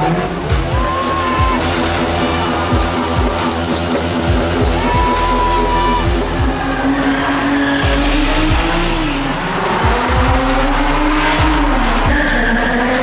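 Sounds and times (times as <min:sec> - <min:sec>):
car engine at high revs: 0:00.0 - 0:13.0
tyres squealing: 0:00.0 - 0:13.0.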